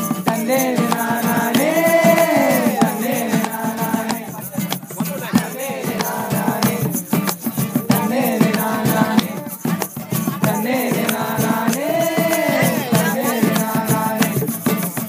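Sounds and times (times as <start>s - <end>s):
acoustic guitar: 0.0s - 15.0s
hand drums: 0.0s - 15.0s
people singing: 0.0s - 15.0s
egg shaker rattling: 0.4s - 15.0s.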